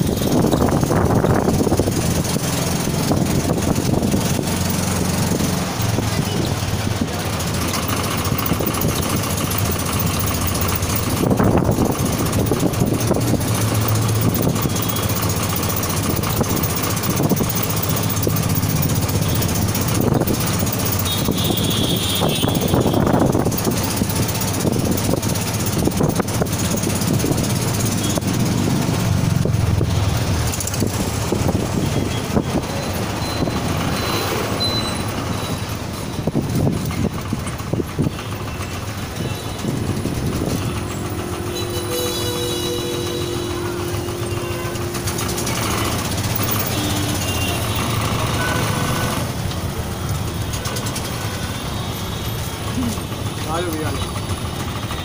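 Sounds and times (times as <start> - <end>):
road traffic noise: 0.0 - 55.0
vehicle engine hum: 0.0 - 55.0.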